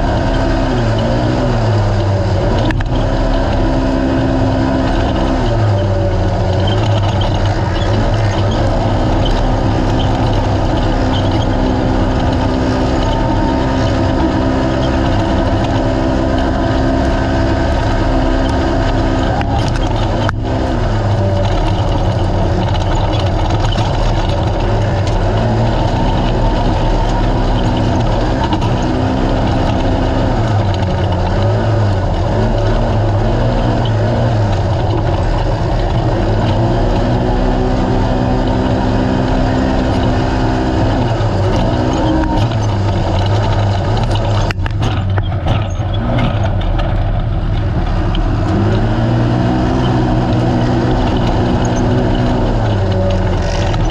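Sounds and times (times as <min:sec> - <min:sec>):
dense noisy rush: 0:00.0 - 0:53.9
race car engine revving hard: 0:00.0 - 0:53.9.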